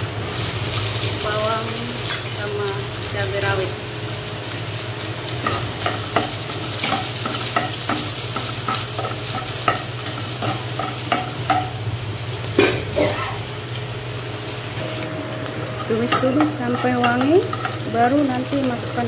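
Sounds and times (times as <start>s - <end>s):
food sizzling in hot oil: 0.0s - 19.0s
low steady hum: 0.0s - 19.0s.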